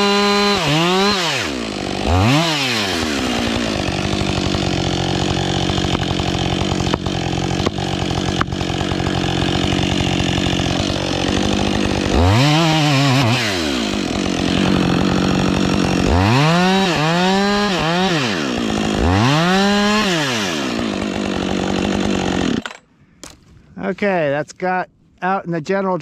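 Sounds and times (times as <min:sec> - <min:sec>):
chainsaw idling and revving: 0:00.0 - 0:22.8.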